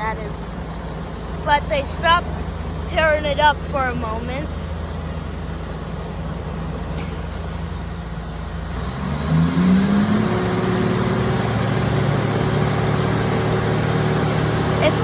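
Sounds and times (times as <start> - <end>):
heavy diesel engine revving: 0.0 - 15.0.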